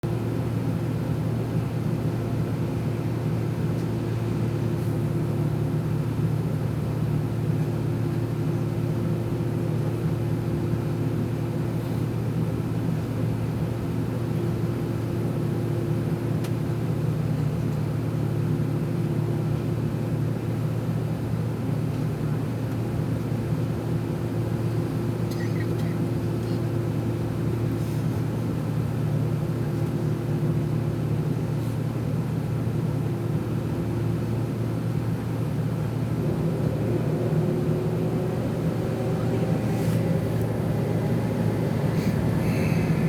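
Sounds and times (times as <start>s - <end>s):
airliner cabin engine drone: 0.1s - 43.0s.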